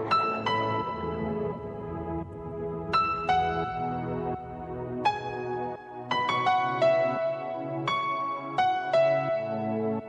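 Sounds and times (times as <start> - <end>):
soft ambient keyboard music: 0.0 - 10.0.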